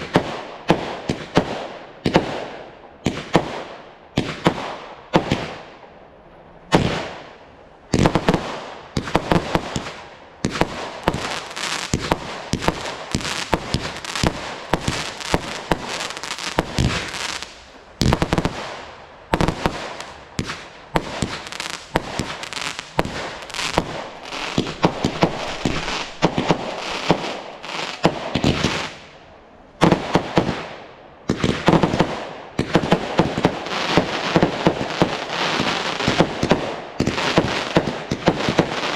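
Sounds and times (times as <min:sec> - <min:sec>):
fireworks bursting and crackling: 0:00.0 - 0:05.8, 0:06.7 - 0:38.9.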